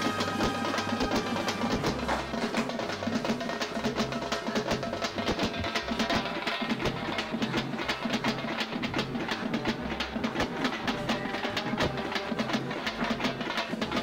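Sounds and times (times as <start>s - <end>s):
fast drum and percussion pattern: 0.0s - 14.0s.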